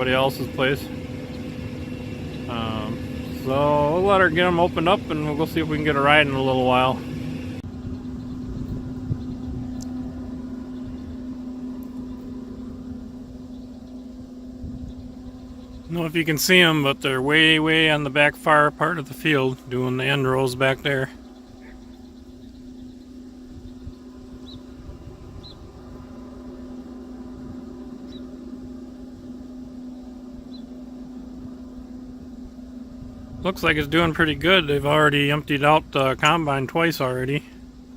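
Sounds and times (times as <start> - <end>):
distant combine harvester drone: 0.0 - 37.9
engine hum: 0.0 - 37.9
low rumbling noise: 0.0 - 37.9.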